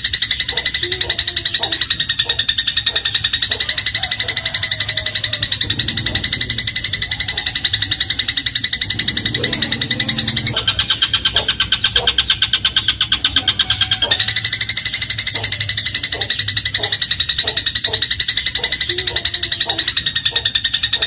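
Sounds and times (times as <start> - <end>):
sparrow rattling trill: 0.0 - 21.0.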